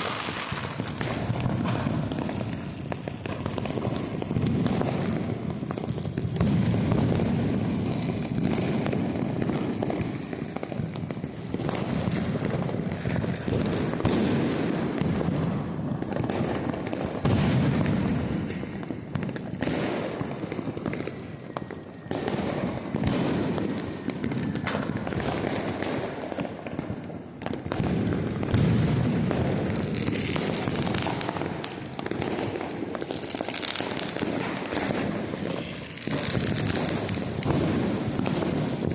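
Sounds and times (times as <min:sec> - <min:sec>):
deep firework bursts: 0:00.0 - 0:38.9
firecrackers crackling: 0:00.0 - 0:38.9.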